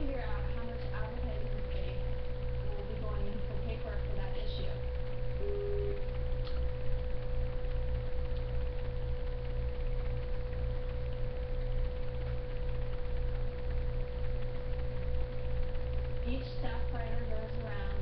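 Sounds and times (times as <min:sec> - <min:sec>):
low wavering rumble: 0:00.0 - 0:18.0
steady electrical hum: 0:00.0 - 0:18.0.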